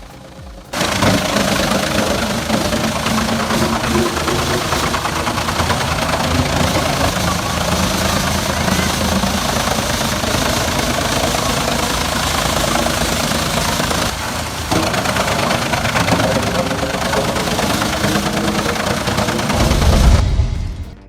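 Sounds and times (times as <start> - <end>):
heavy machinery engine drone: 0.0 - 21.0.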